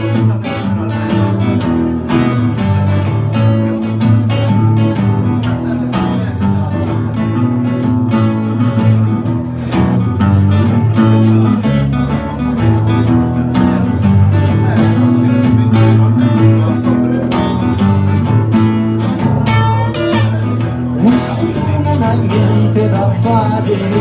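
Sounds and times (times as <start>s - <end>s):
pop-rock guitar and bass: 0.0s - 24.0s.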